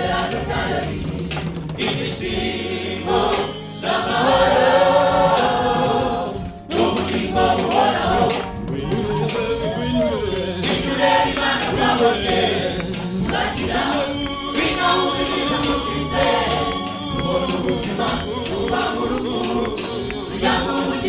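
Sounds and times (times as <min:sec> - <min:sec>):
gospel choir singing: 0:00.0 - 0:21.0
musical accompaniment: 0:00.0 - 0:21.0.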